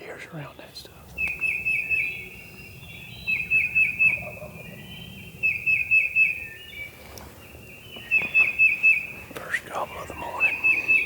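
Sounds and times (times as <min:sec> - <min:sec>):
low steady background noise: 0:00.0 - 0:11.0
songbird whistling: 0:01.2 - 0:06.9, 0:07.5 - 0:11.0.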